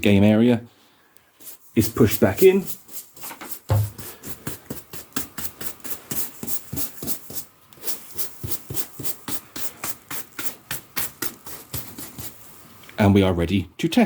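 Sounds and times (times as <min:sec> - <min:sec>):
hand brush sweeping carpet: 0:01.4 - 0:12.7.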